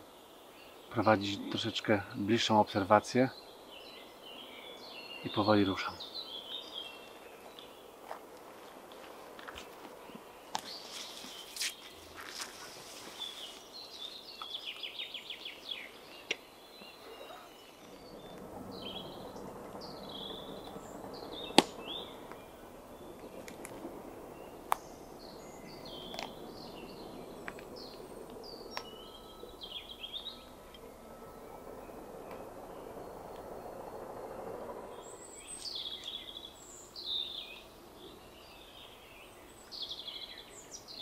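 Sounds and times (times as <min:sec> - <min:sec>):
songbirds singing: 0:00.0 - 0:41.0
distant construction rumble: 0:00.8 - 0:40.9.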